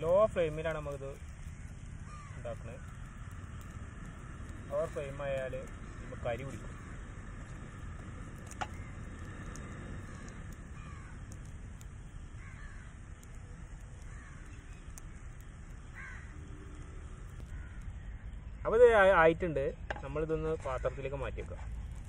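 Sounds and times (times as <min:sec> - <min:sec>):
bird calling: 0:00.0 - 0:19.0
steady low rumble: 0:00.0 - 0:22.0.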